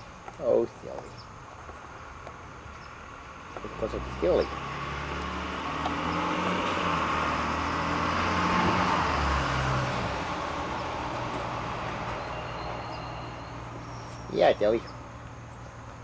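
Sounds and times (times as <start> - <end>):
vehicle passing by: 1.9 - 16.0.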